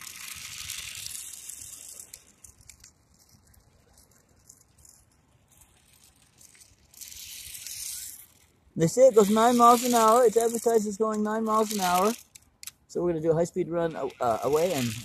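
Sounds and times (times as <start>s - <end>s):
small rc truck motor rattle: 0.0s - 15.0s.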